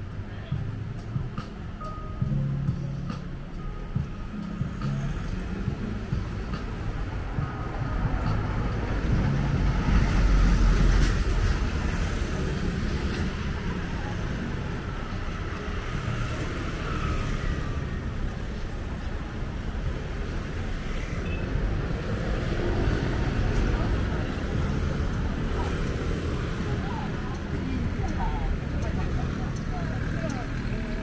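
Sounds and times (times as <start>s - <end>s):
low traffic rumble: 0.0s - 31.0s.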